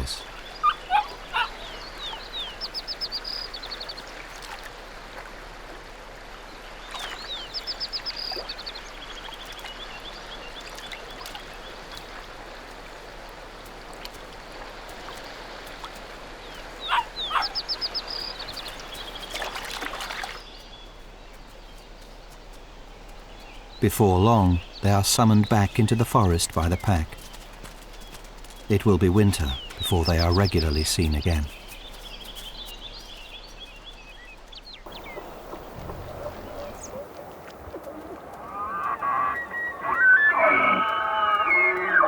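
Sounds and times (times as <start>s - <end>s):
songbird singing: 0.0s - 4.7s, 6.5s - 42.0s
faint outdoor background: 0.0s - 42.0s.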